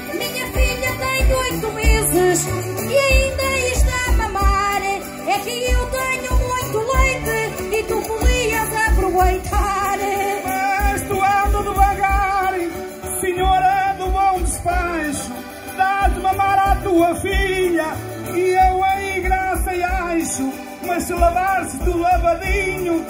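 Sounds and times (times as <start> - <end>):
button accordions playing folk: 0.0 - 23.0
person singing: 0.0 - 23.0.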